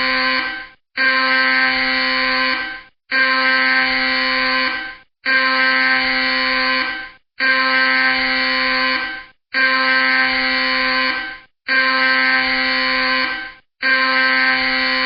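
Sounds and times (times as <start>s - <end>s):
loud alarm tone blasts: 0.0s - 15.0s.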